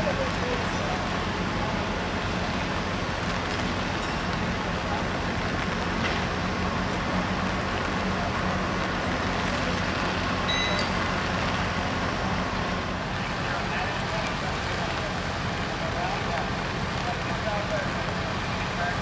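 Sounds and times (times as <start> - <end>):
diesel machinery engine drone: 0.0 - 19.0.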